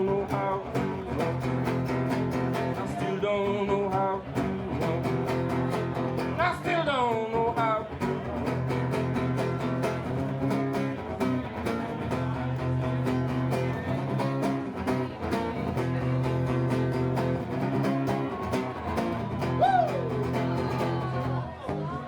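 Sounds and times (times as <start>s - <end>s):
guitar chords: 0.0s - 22.0s.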